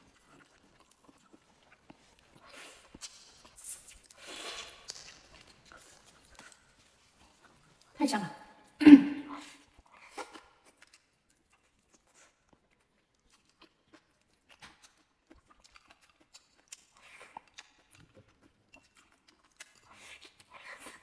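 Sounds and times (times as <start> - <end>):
person chewing food: 0.0 - 8.0, 9.4 - 21.0.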